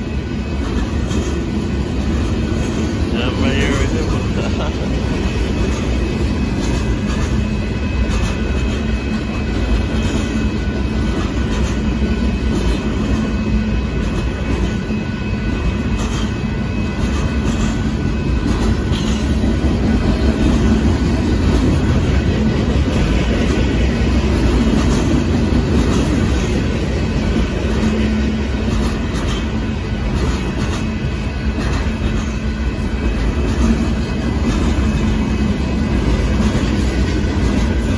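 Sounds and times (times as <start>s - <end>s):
freight train wheels rumbling: 0.0s - 37.9s
rail joint clicks: 0.0s - 37.9s.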